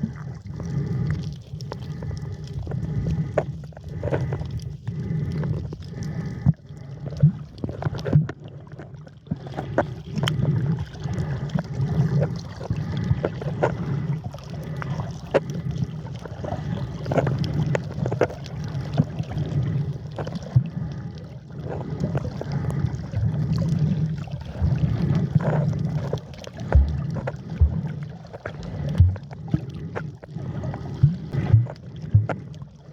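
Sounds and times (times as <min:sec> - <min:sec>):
water sloshing and gurgling: 0:00.0 - 0:32.9.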